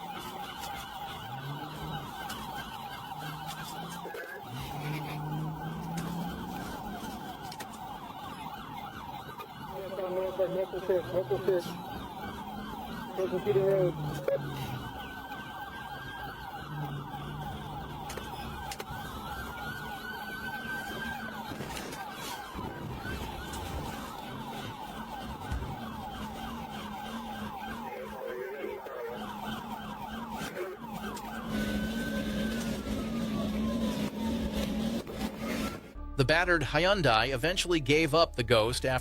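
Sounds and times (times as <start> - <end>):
police siren yelp: 0.0 - 36.2
siren wail: 0.0 - 36.2.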